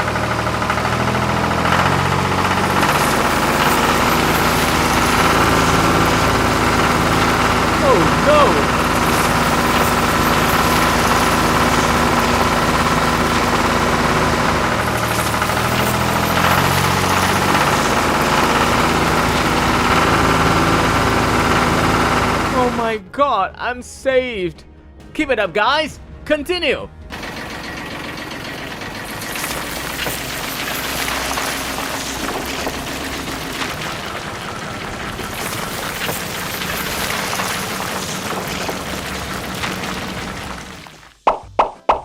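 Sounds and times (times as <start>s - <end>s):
vehicle engine chugging: 0.0s - 23.0s, 27.0s - 41.1s.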